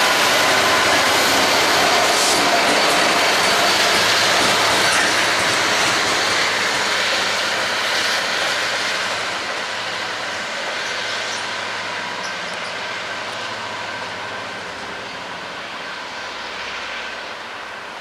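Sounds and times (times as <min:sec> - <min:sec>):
train passing on rails: 0:00.0 - 0:18.0.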